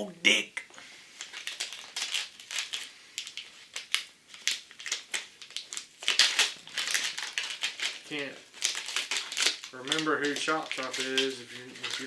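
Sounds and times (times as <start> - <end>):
packaging crinkling and rustling: 1.2 - 12.0.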